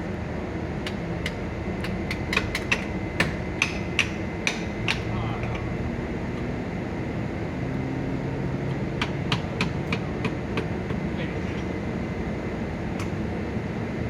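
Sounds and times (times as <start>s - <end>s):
locomotive engine running: 0.0s - 14.0s.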